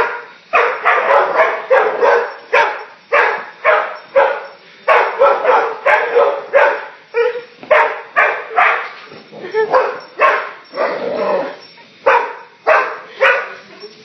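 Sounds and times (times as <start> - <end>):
dog barking: 0.0 - 9.0, 9.6 - 13.8.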